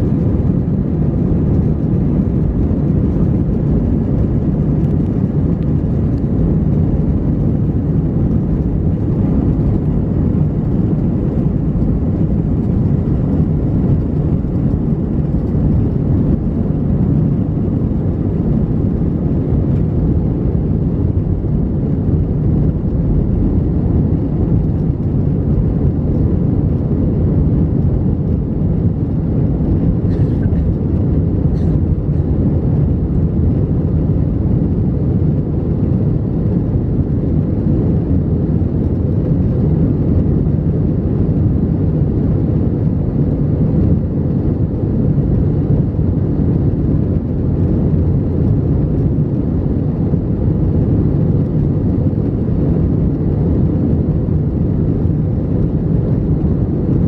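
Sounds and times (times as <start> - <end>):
jet engines and airflow in cabin: 0.0 - 57.0.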